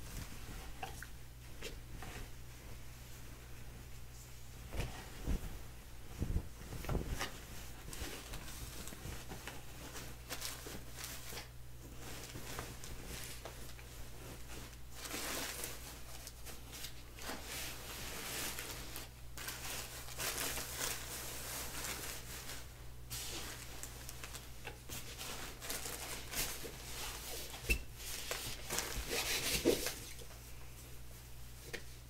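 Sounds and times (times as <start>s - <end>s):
cloth rustling: 0.0s - 32.0s.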